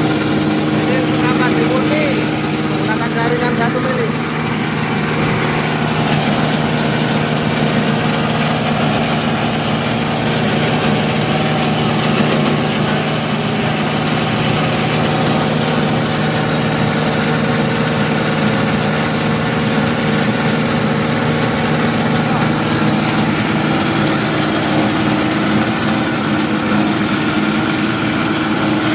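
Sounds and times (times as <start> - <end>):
grinding mill humming: 0.0 - 28.9.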